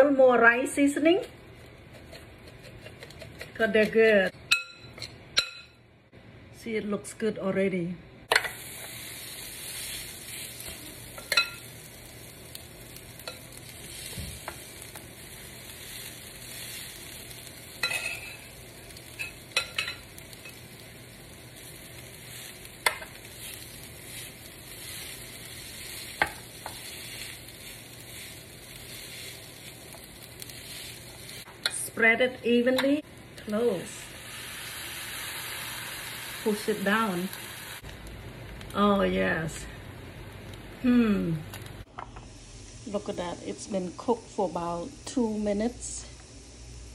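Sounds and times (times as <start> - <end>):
food sizzling: 8.3 - 46.9.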